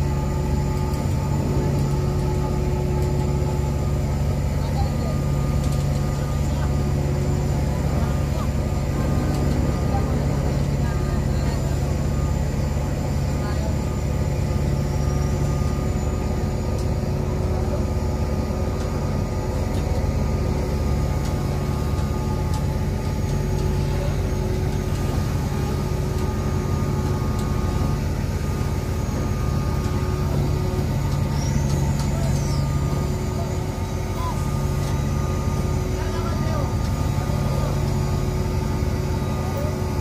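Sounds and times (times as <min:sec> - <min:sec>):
engine machinery droning: 0:00.0 - 0:40.0.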